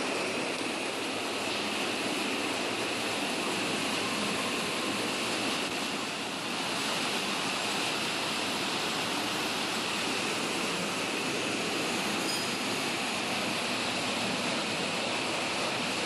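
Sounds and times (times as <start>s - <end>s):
rushing churning water: 0.0s - 16.0s.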